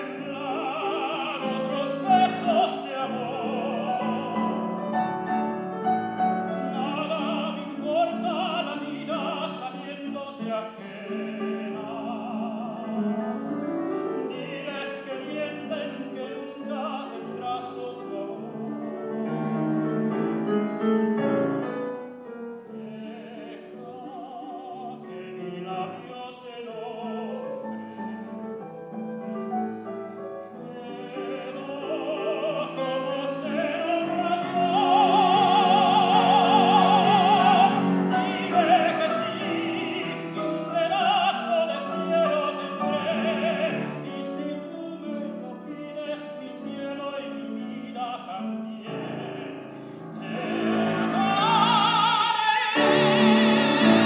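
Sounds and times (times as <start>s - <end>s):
man singing opera: 0.0s - 19.2s, 22.0s - 54.0s
piano accompaniment: 0.0s - 54.0s.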